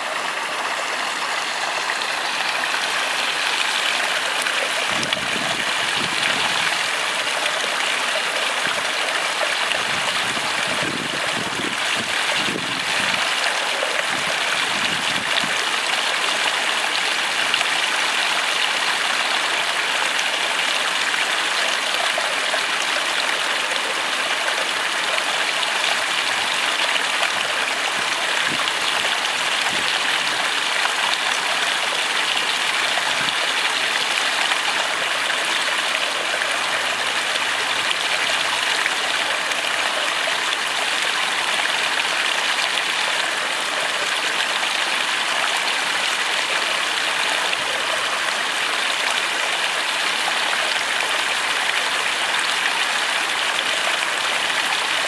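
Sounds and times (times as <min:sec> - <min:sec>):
water pouring over rocks: 0:00.0 - 0:55.0.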